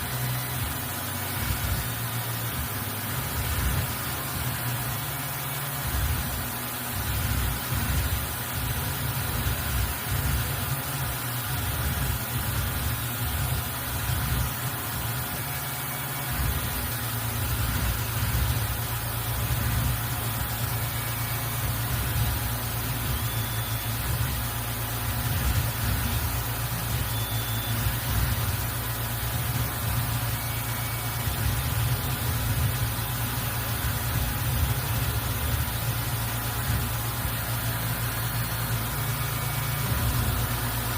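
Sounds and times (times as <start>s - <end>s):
constant hiss: 0.0s - 40.9s
milling machine humming: 0.0s - 40.9s.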